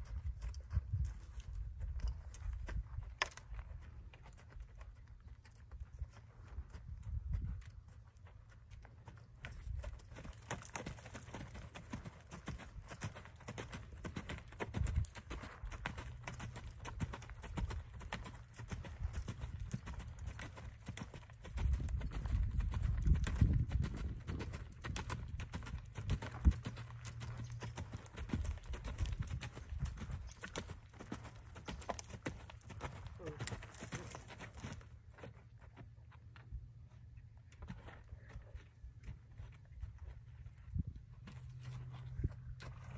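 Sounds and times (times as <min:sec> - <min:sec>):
horse hoofbeats on sand: 0:00.0 - 0:36.5, 0:37.6 - 0:42.9.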